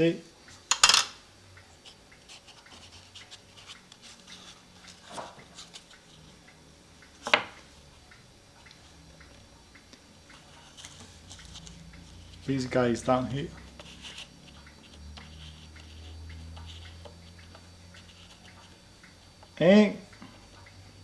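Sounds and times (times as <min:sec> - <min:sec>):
faint rustling and ticks: 0:01.6 - 0:20.8.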